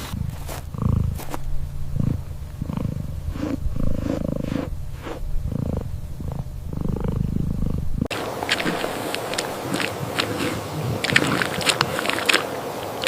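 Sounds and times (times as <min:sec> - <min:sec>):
animal low rumbling purr: 0:00.0 - 0:12.5.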